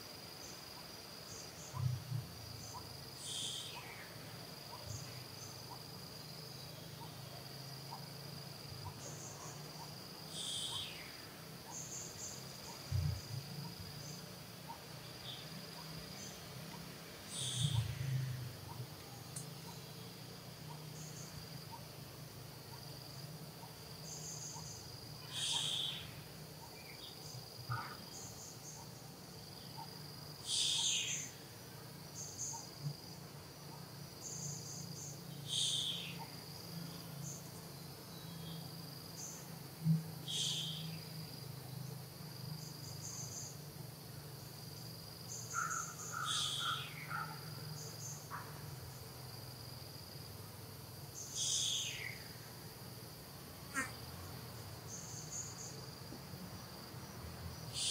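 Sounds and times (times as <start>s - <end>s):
faint chirps: 0.0s - 41.2s, 45.2s - 49.0s, 51.1s - 52.5s, 53.7s - 54.0s, 57.6s - 57.9s
insects trilling: 0.0s - 57.9s.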